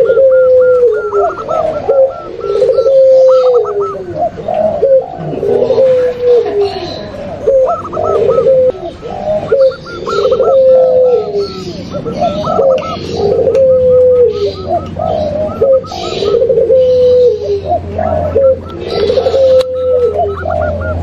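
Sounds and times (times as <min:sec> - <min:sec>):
bird chirping: 0:00.0 - 0:21.0
doves cooing: 0:00.0 - 0:21.0.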